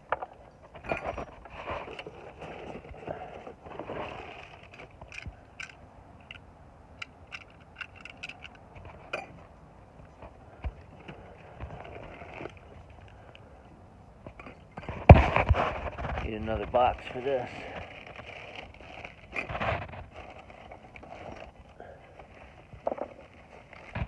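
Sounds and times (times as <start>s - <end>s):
hand rummaging through metal hardware: 0.1s - 13.4s, 14.2s - 24.0s.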